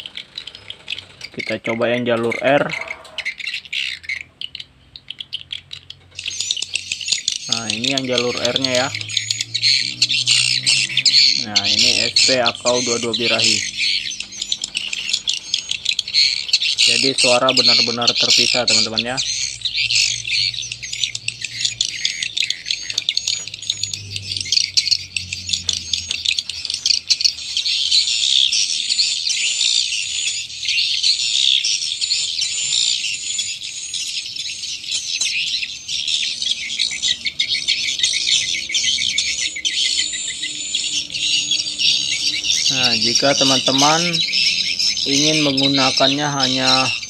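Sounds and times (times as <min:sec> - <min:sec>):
high-pitched electronic bird chirping: 0:00.0 - 0:47.0.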